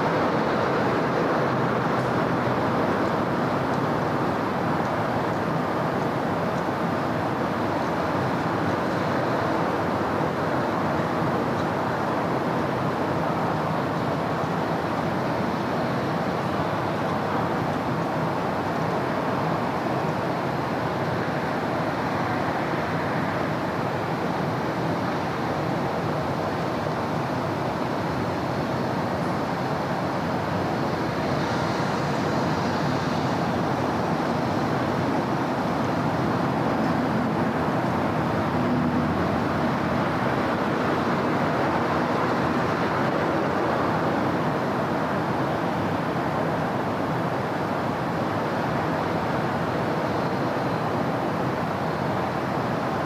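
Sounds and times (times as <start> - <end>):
city traffic noise: 0.0 - 53.0.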